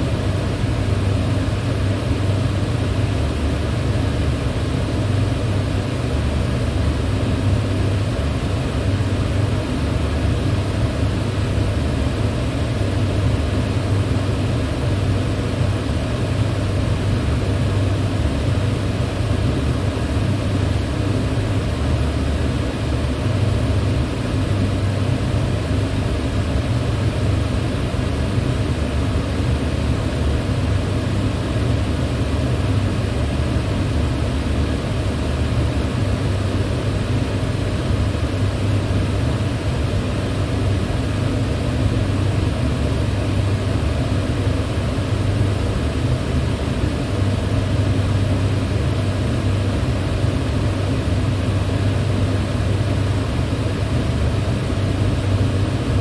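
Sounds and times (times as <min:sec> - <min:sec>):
electric fan humming: 0:00.0 - 0:56.0.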